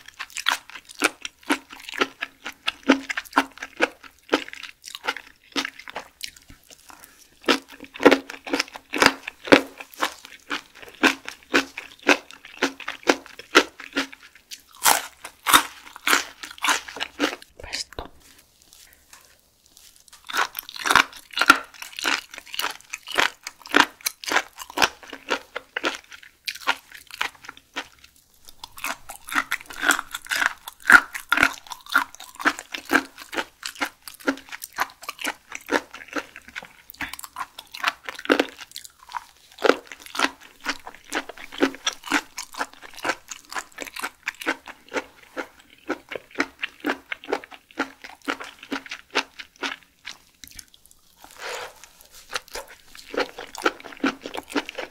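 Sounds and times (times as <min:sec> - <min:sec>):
wet chewing and biting: 0:00.0 - 0:54.9.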